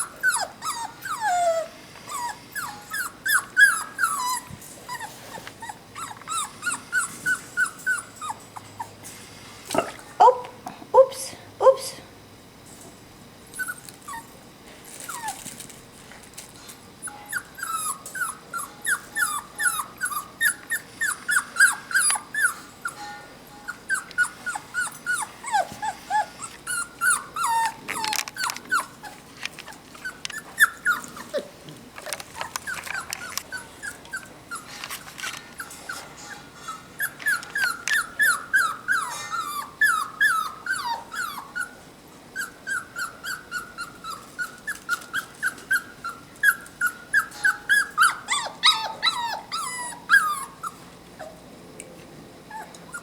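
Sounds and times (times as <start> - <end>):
puppies whining and whimpering: 0.0 - 9.0, 13.5 - 15.7, 17.0 - 31.6, 32.3 - 51.4, 52.4 - 53.0.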